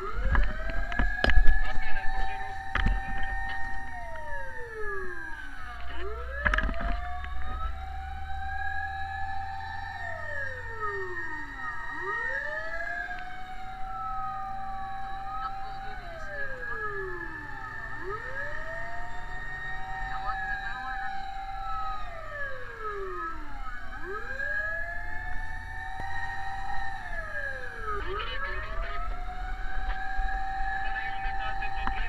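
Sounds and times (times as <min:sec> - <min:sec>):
fire truck sirens wailing: 0:00.0 - 0:32.0.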